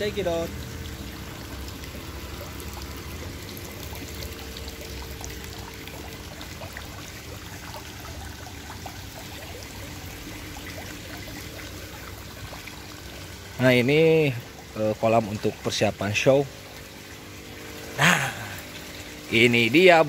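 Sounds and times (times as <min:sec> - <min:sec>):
small splashes and drips: 0:00.0 - 0:20.0
water pouring into pond: 0:00.0 - 0:20.0.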